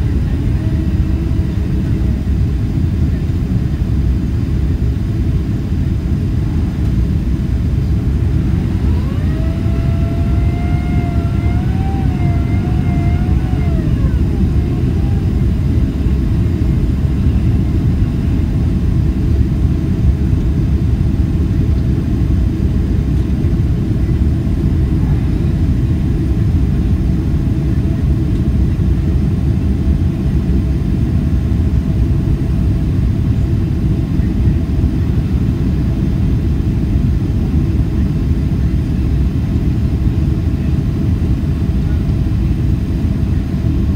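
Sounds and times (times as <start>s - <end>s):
airplane cabin engine rush: 0.0s - 43.9s.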